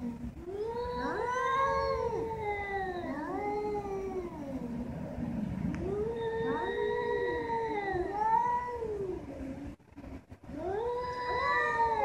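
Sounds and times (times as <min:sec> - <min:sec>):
cats yowling: 0:00.0 - 0:05.0, 0:05.8 - 0:09.6, 0:10.5 - 0:12.0.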